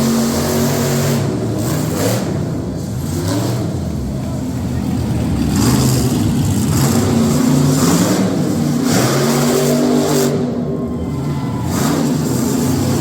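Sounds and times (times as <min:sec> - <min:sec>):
truck engines revving hard: 0:00.0 - 0:13.0.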